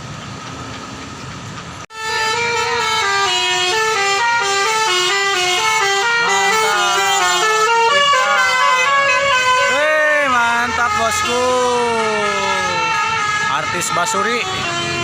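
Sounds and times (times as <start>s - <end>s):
bus musical air horn tune: 1.9s - 15.0s.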